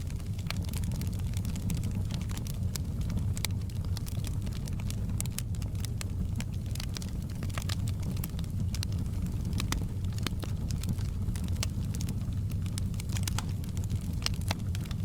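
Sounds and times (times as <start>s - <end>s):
campfire crackling: 0.0s - 15.0s
low fire rumble: 0.0s - 15.0s.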